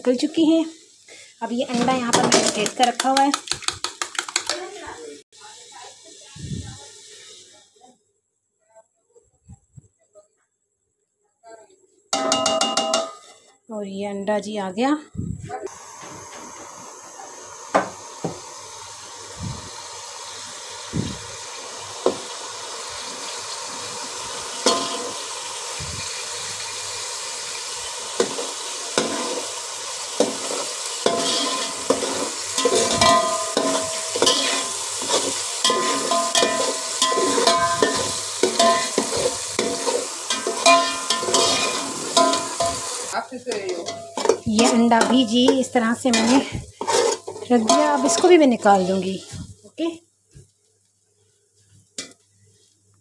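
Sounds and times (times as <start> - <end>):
egg sizzling in oil: 0.0 - 7.6, 15.7 - 53.0.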